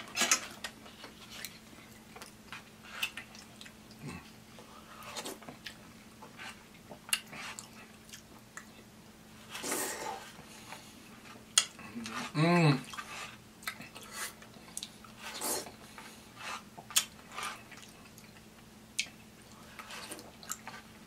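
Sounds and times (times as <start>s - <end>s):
person chewing: 0.2s - 8.9s, 9.5s - 21.0s.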